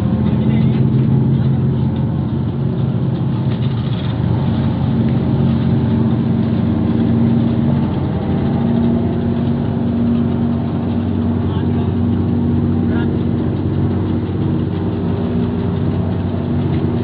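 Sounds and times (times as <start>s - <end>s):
boat diesel engine running: 0.0s - 17.0s.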